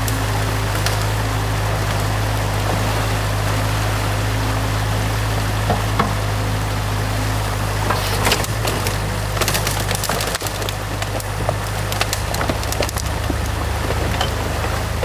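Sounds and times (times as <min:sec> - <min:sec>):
excavator diesel engine: 0:00.0 - 0:15.0
water rushing: 0:00.0 - 0:15.0.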